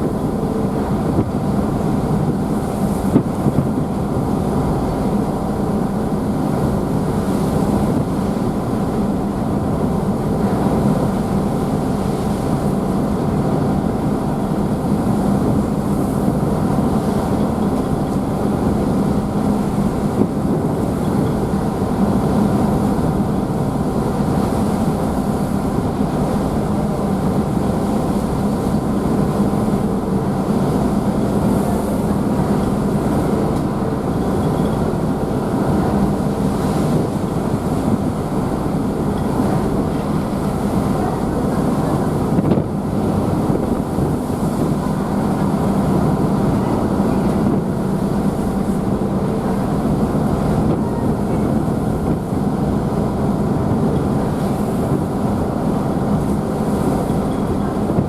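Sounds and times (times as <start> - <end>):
churned water rushing: 0.0 - 58.0
ship engines humming: 0.0 - 58.0.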